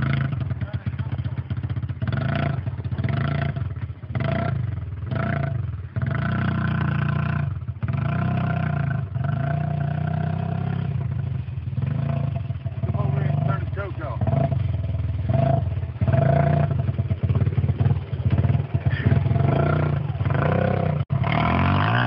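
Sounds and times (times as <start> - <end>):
small atv engine revving: 0.0 - 22.0.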